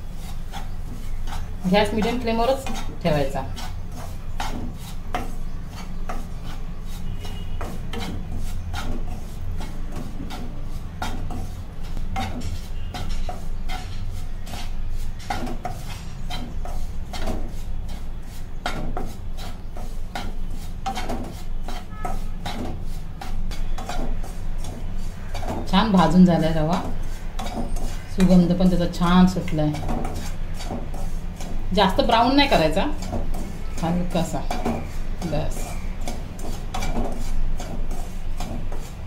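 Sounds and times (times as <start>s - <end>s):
wooden spatula scraping pan: 0.0s - 39.0s.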